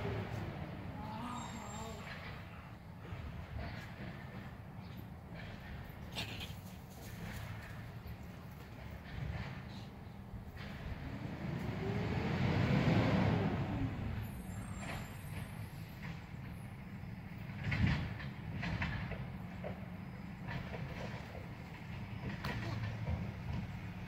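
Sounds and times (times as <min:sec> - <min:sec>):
passing vehicle rumble: 0:00.0 - 0:24.0.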